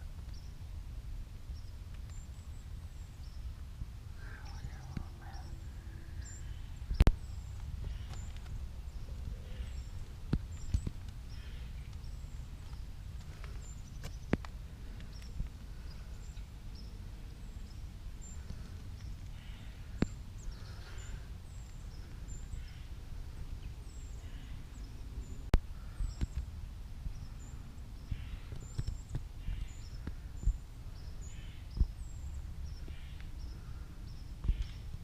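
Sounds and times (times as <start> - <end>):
small birds chirping: 0.0 - 0.7, 1.4 - 35.0
low rumble: 2.3 - 34.2.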